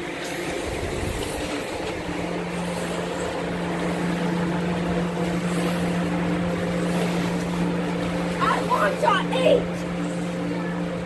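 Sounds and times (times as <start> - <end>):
blower fan droning hum: 0.0 - 11.0.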